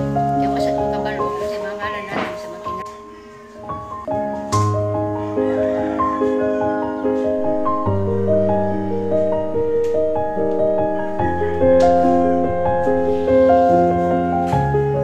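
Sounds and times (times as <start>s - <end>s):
keyboard melody over bass notes: 0.0s - 15.0s.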